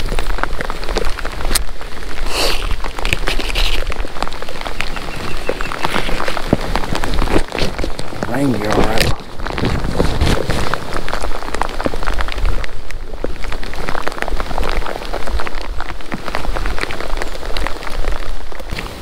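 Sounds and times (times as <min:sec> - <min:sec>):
rain pattering on kayak: 0:00.0 - 0:19.0.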